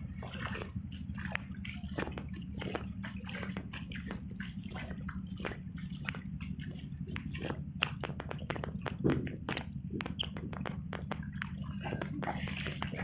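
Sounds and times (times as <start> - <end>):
steady low hum: 0.0 - 13.0
water sloshing and splashing: 0.0 - 13.0.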